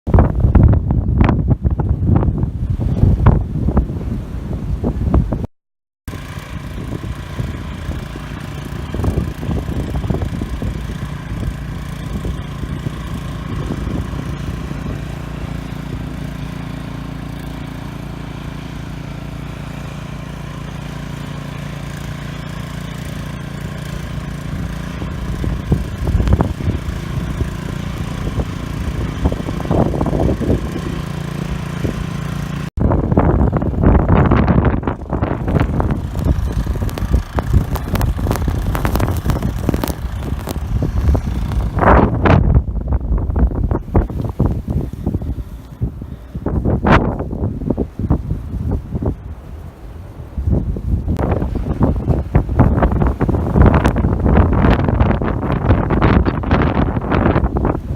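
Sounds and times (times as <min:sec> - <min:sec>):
wind buffeting microphone: 0:00.1 - 0:05.5, 0:06.1 - 0:57.9
engine humming steadily: 0:06.1 - 0:57.9.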